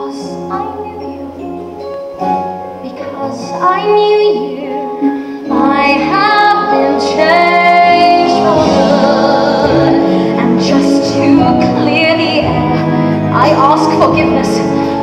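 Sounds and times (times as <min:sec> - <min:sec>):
instrumental accompaniment: 0:00.0 - 0:15.0
women singing a ballad: 0:02.8 - 0:15.0.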